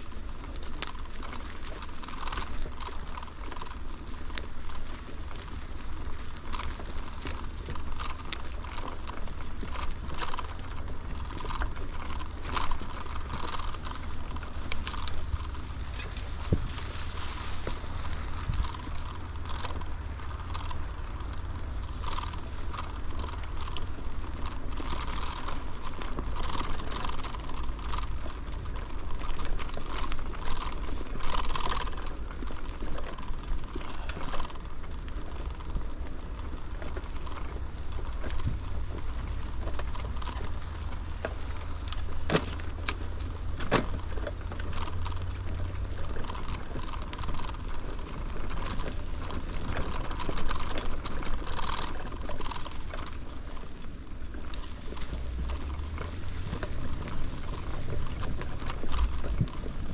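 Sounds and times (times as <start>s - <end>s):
bicycle tyres rolling: 0.0s - 59.9s
wind rumble on microphone: 1.6s - 59.9s.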